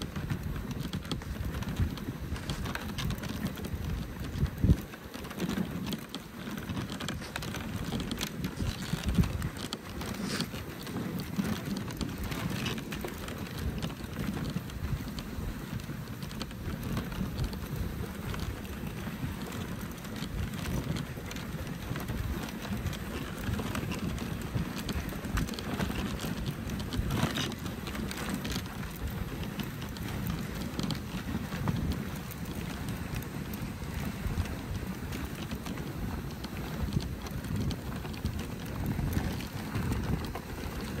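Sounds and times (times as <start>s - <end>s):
sled runners scraping over snow: 0.0s - 41.0s
snow crunches: 0.1s - 41.0s.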